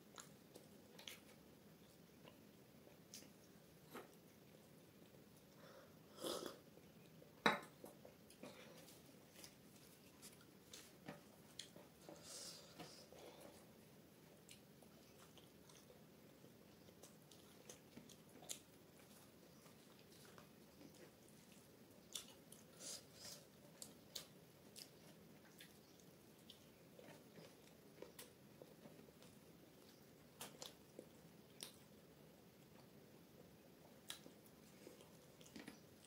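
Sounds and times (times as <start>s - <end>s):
faint chewing: 0.0s - 36.0s.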